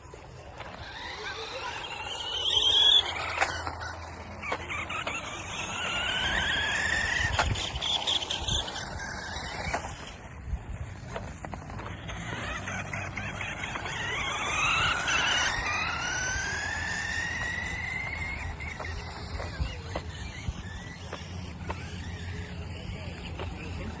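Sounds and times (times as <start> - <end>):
rc car motor whining: 0.0 - 24.0.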